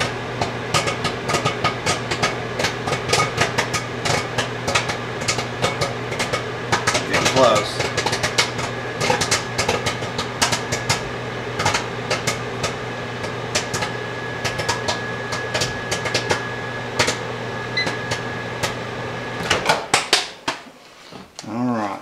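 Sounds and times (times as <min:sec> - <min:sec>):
microwave oven hum: 0:00.0 - 0:20.6
popcorn popping: 0:00.0 - 0:20.6.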